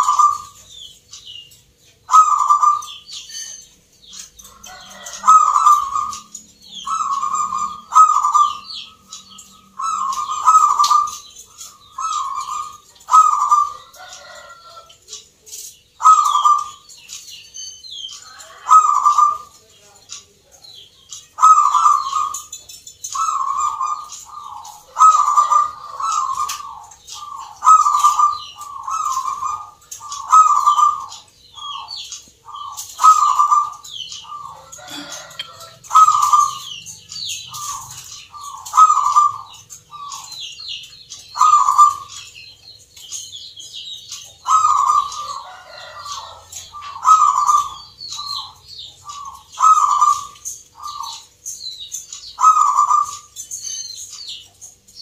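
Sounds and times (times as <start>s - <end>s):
dove cooing: 0.0s - 0.8s, 2.0s - 3.6s, 4.2s - 17.0s, 18.2s - 19.6s, 21.4s - 42.5s, 43.4s - 54.4s
small birds chirping: 0.0s - 55.0s.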